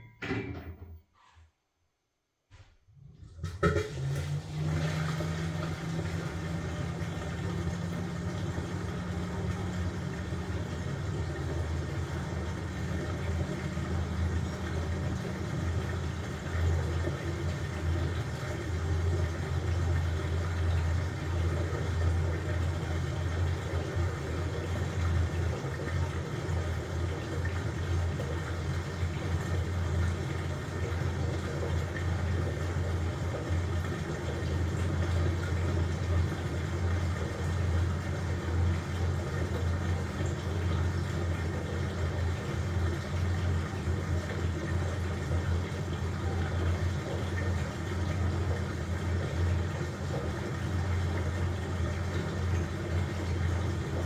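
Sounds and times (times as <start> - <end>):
washing machine motor hum: 0.0 - 1.0, 2.9 - 54.0
washing machine churning: 3.0 - 54.0.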